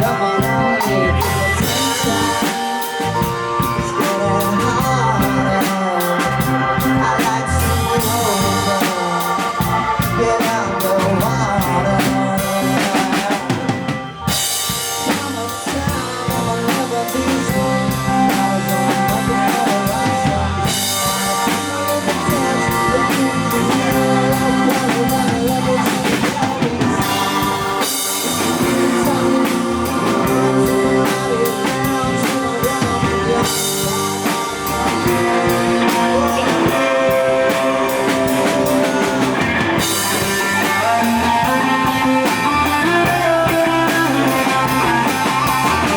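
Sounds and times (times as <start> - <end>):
drum kit with cymbals: 0.0 - 45.9
rock band playing: 0.0 - 45.9.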